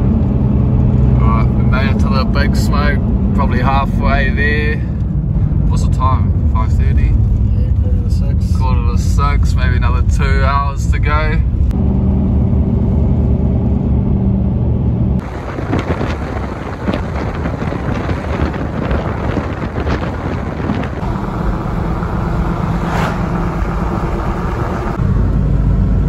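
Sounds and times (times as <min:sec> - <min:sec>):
truck engine hum: 0:00.0 - 0:26.0
wind and road noise: 0:00.0 - 0:26.0.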